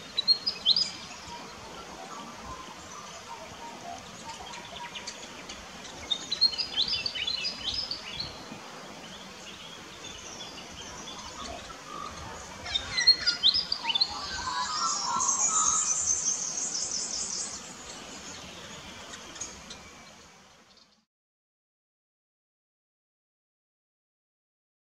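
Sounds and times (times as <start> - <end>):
small birds chirping and twittering: 0.0 - 21.1
steady background hiss: 0.0 - 21.1.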